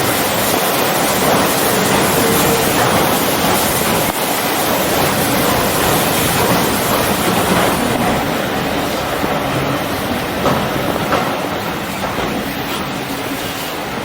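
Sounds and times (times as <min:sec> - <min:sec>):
train carriage rolling: 0:00.0 - 0:14.0
wind buffeting microphone: 0:00.0 - 0:14.0.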